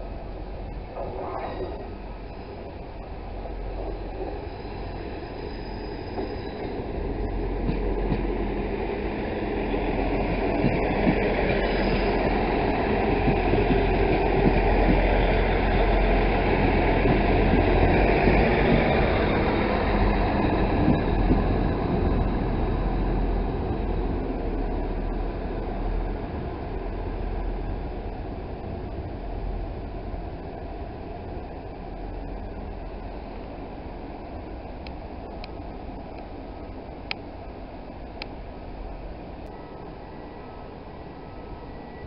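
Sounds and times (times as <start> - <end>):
diesel train engine rumble: 0.0 - 42.0
train wheels on rails: 0.9 - 37.5.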